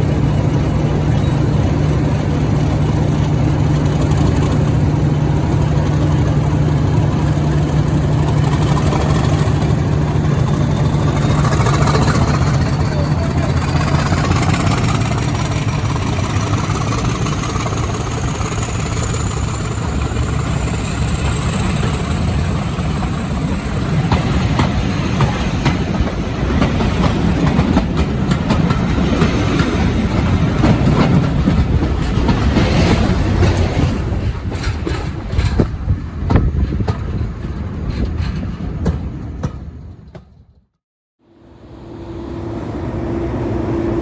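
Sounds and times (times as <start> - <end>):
diesel engine drone: 0.0 - 34.5, 41.2 - 44.0
train wheels clicking on rails: 0.0 - 40.6.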